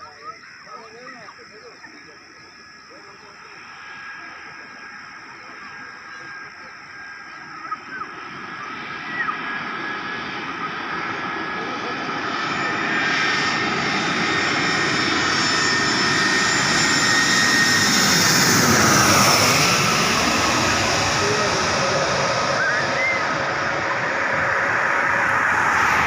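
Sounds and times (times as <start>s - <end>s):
jet airliner engine whine: 0.0s - 26.0s.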